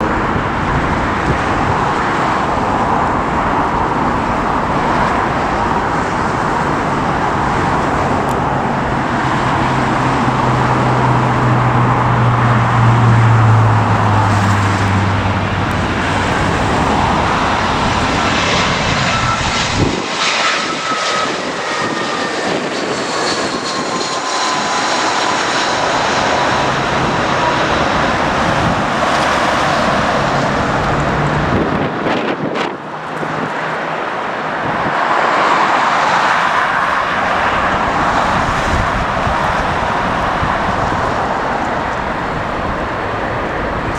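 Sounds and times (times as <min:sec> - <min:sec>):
high engine whine: 0:00.0 - 0:43.9
jet engines roaring: 0:00.0 - 0:43.9.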